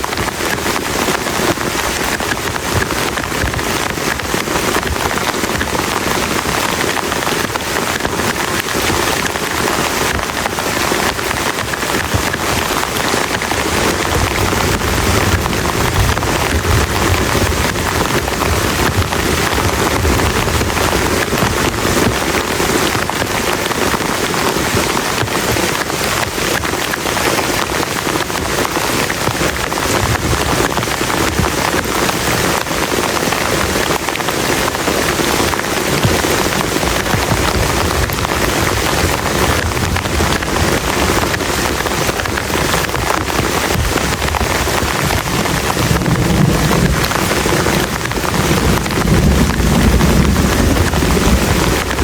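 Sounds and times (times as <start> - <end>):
rain on a plastic tarp: 0.0 - 52.0.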